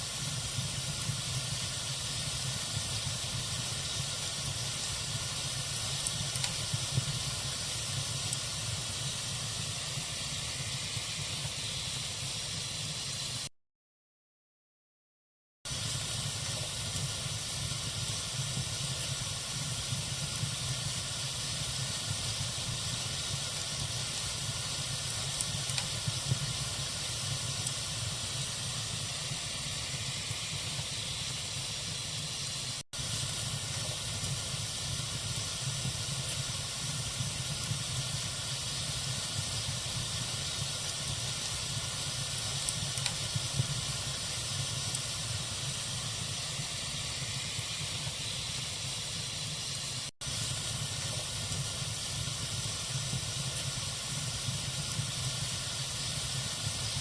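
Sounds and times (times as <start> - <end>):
log fire burning: 0.0 - 12.6, 15.7 - 57.0.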